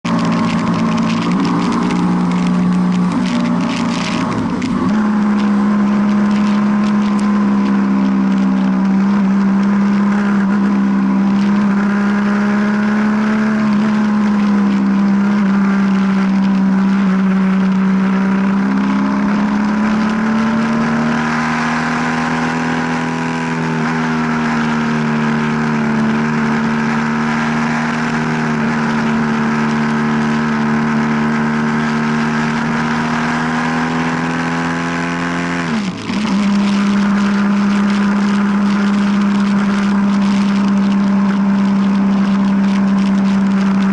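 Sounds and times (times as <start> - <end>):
road noise: 0.0 - 43.9
vehicle engine running: 0.0 - 43.9.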